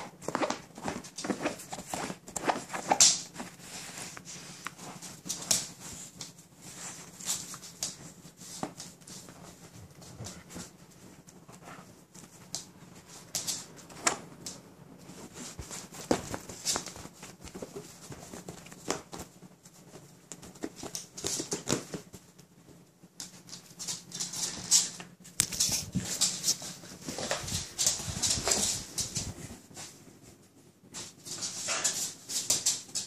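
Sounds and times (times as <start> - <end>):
dog paws pattering on wooden floor: 0.0 - 33.0.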